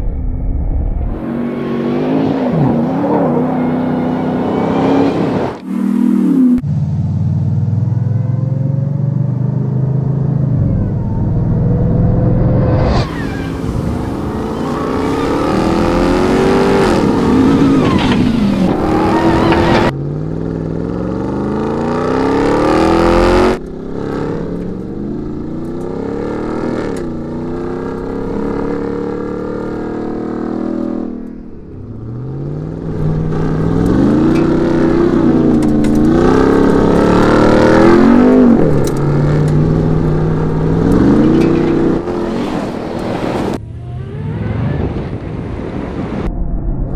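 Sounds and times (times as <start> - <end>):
truck engine revving: 1.1 - 44.9.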